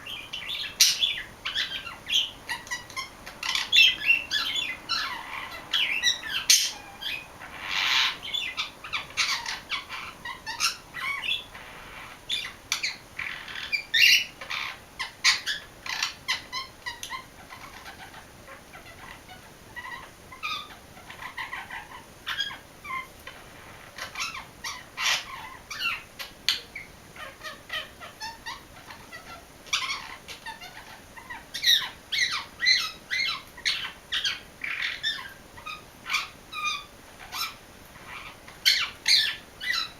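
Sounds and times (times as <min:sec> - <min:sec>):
budgerigar chirping and warbling: 0:00.1 - 0:23.1, 0:23.9 - 0:39.9.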